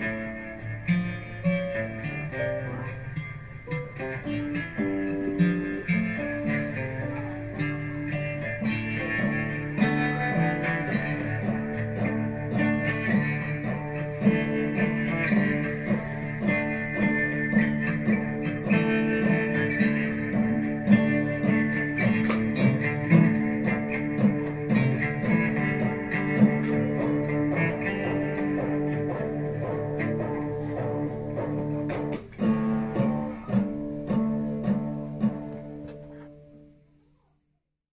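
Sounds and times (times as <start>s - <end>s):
instrumental guitar music: 0.0s - 37.3s.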